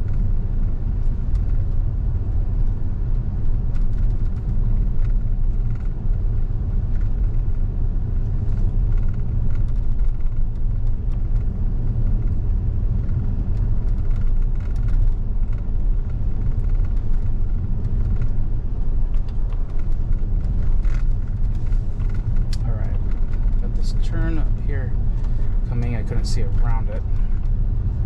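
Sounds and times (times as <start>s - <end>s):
road and tyre rumble in car: 0.0s - 28.0s.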